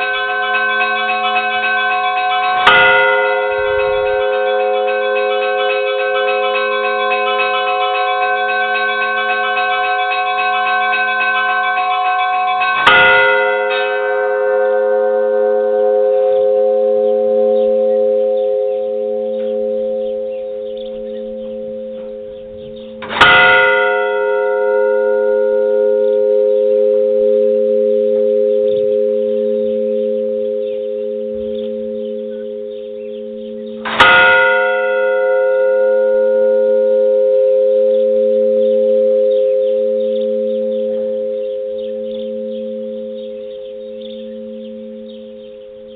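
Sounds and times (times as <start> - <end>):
large church bell tolling: 0.0 - 45.9.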